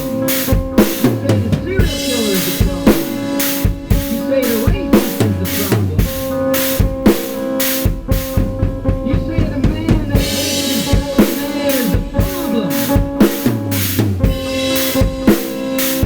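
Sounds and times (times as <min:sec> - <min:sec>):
fast drum kit playing: 0:00.0 - 0:16.0.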